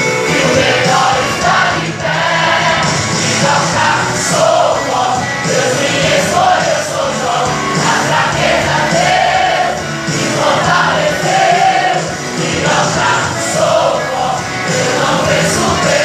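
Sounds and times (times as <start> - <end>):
band playing worship music: 0.0 - 16.0
choir singing long notes: 0.0 - 16.0.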